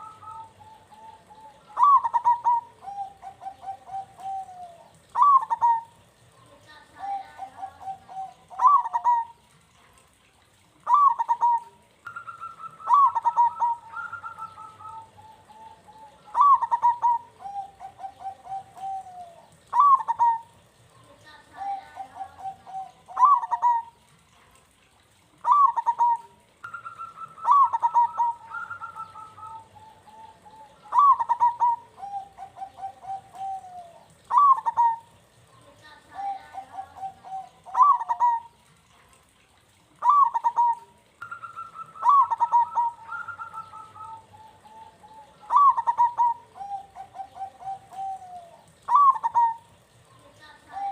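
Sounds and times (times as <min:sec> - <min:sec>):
dove cooing: 0:00.0 - 0:24.1, 0:24.8 - 0:38.7, 0:40.0 - 0:50.9.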